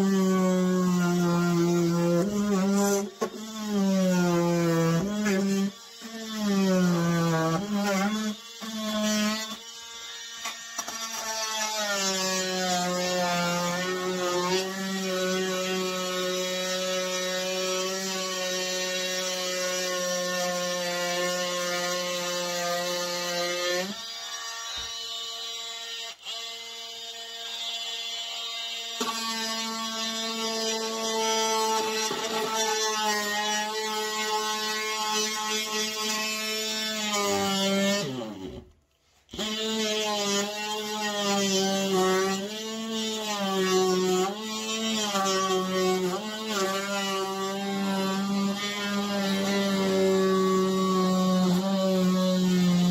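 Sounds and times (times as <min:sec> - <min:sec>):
blade cutting hard plastic: 0:00.0 - 0:49.9, 0:50.8 - 0:52.9
oscillating multi-tool buzzing: 0:00.0 - 0:52.9.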